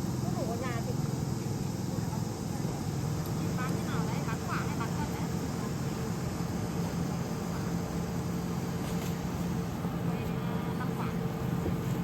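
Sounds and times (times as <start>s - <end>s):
constant rushing noise: 0.0s - 12.0s.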